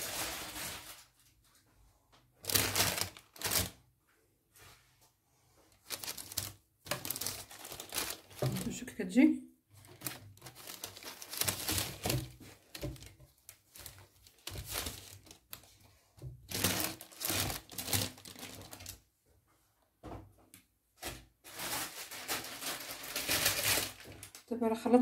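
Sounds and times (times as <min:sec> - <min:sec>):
baking paper crinkling: 0:00.0 - 0:01.7, 0:02.4 - 0:03.8, 0:05.6 - 0:19.0, 0:21.0 - 0:25.0.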